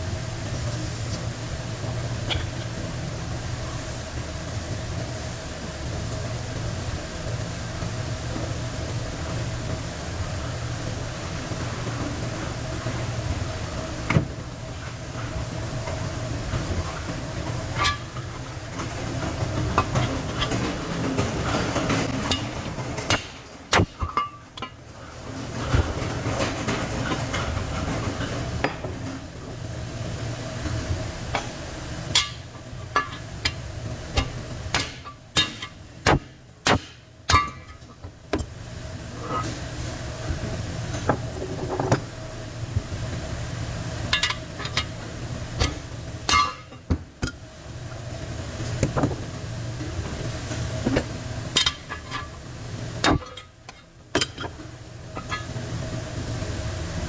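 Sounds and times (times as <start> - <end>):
low workshop hum: 0.0 - 57.0.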